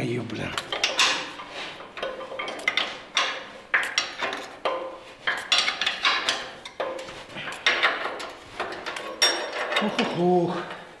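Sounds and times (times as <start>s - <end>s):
wrench clanking on bolt: 0.6s - 10.9s.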